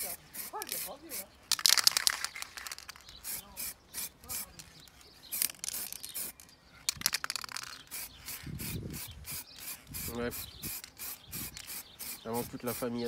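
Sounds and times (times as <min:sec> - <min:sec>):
spray paint can hissing: 0:00.0 - 0:13.0.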